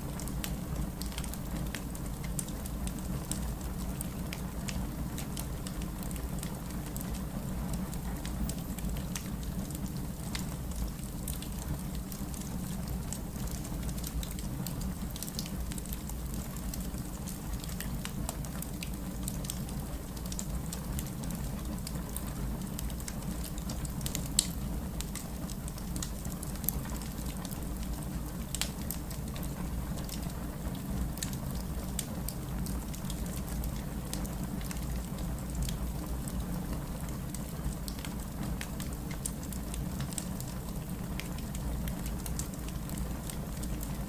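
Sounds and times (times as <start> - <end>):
fireplace fire crackling: 0.0 - 44.0.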